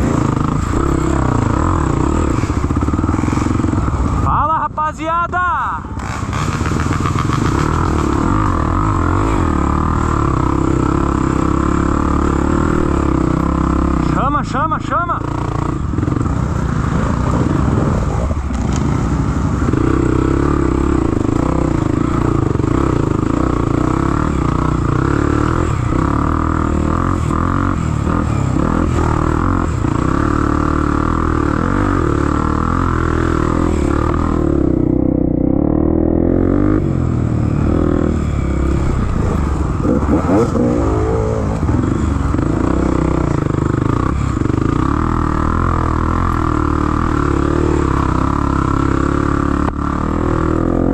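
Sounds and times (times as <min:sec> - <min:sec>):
motorcycle engine revving: 0:00.0 - 0:04.7, 0:05.3 - 0:50.9.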